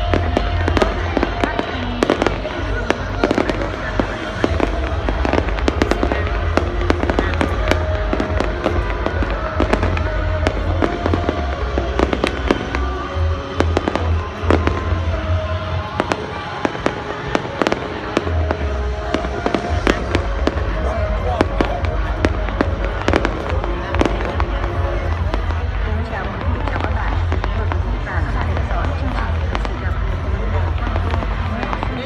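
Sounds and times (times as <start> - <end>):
deep rumble: 0.0 - 32.0
fireworks bangs and cracks: 0.0 - 32.0
music playing: 0.0 - 32.0.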